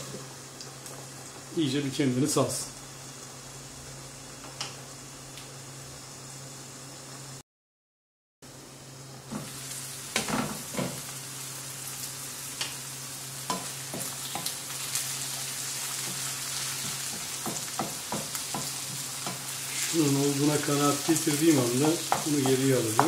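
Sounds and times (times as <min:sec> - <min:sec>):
vegetables sizzling in oil: 0:00.0 - 0:07.4, 0:08.5 - 0:23.0.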